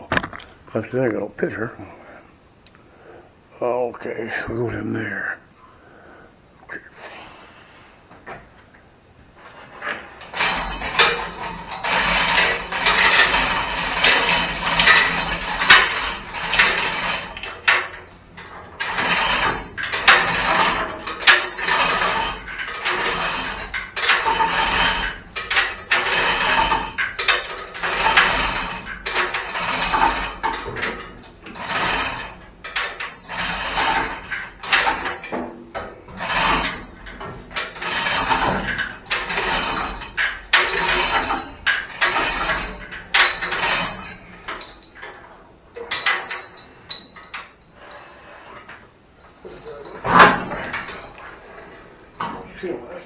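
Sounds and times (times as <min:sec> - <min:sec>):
hand tool strokes on metal: 0:09.4 - 0:53.0.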